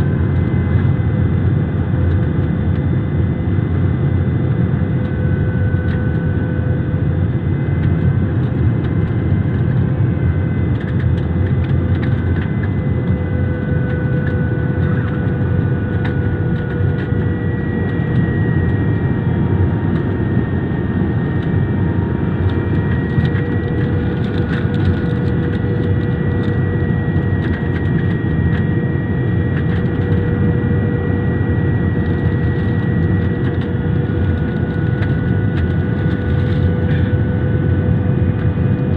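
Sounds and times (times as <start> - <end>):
faint whining engine tones: 0.0 - 38.9
jet airliner cabin noise: 0.0 - 38.9.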